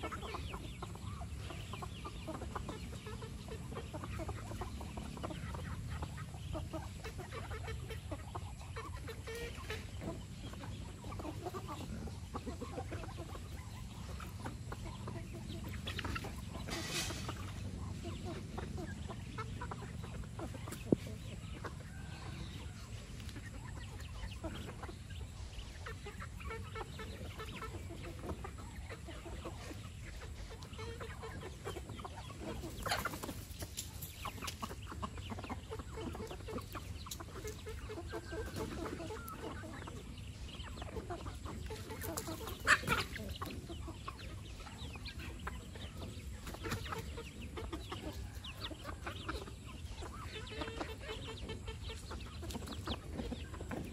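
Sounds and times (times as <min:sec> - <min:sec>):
chickens clucking softly: 0:00.0 - 0:53.9.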